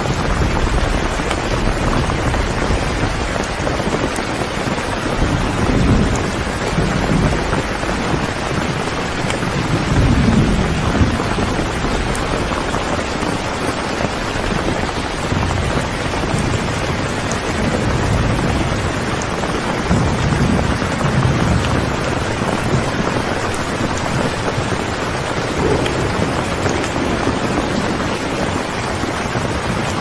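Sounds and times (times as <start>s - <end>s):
steady rain falling: 0.0s - 30.0s
thunder rumbling: 0.0s - 30.0s.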